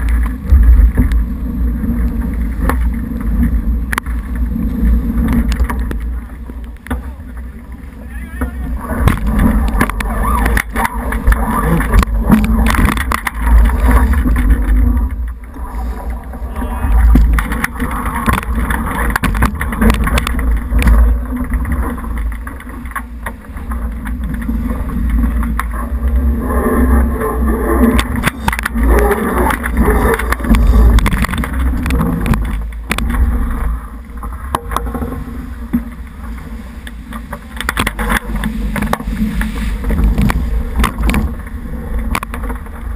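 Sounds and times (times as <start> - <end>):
bow wave rushing and splashing: 0.0 - 42.9.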